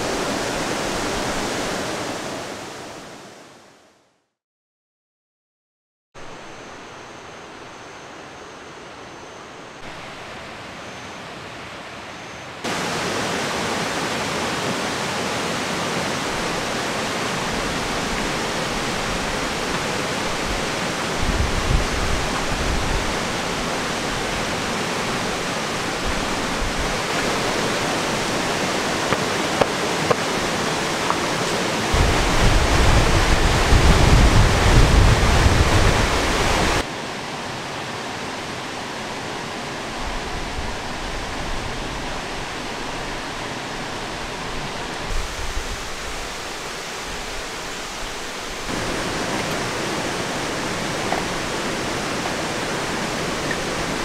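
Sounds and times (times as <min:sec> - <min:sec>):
stream rushing: 0:00.0 - 0:03.9, 0:06.2 - 0:54.0.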